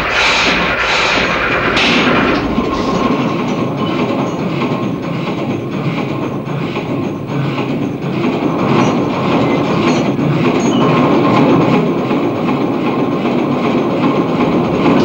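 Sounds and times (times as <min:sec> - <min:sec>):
rumbling rattling mechanical noise: 0:00.0 - 0:15.0.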